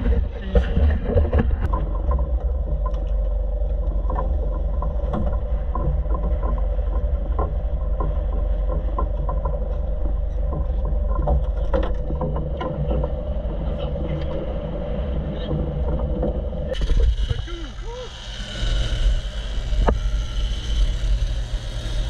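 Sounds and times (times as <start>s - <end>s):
boat engine humming: 0.0s - 22.0s
moving hull: 0.0s - 22.0s.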